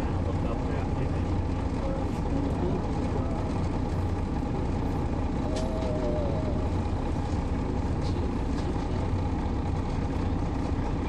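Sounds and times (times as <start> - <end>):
diesel engine low rumble: 0.0 - 11.0
road and cabin noise: 0.0 - 11.0.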